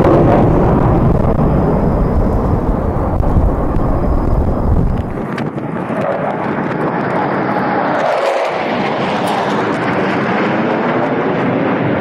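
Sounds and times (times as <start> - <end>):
jet engines rumbling overhead: 0.0 - 12.0.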